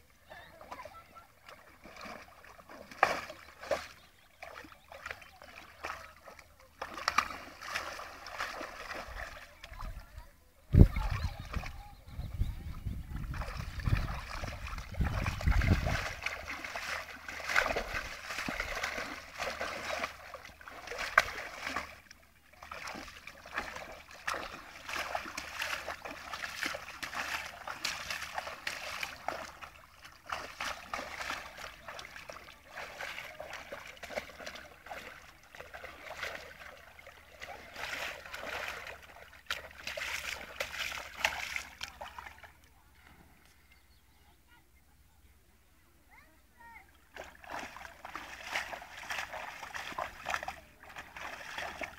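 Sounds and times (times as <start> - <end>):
dog splashing in shallow water: 0.6 - 10.1, 10.8 - 12.0, 13.1 - 43.0, 47.0 - 51.9.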